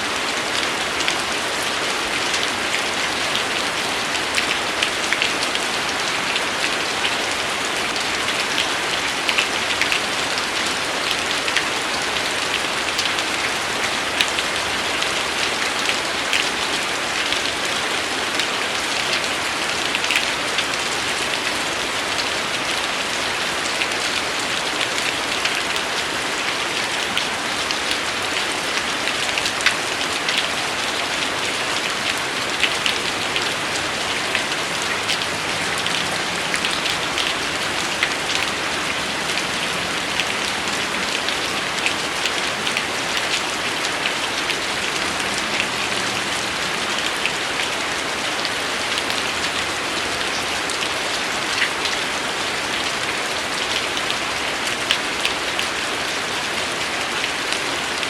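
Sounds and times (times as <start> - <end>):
raindrops ticking: 0.0 - 49.7
rain hissing: 0.0 - 51.5.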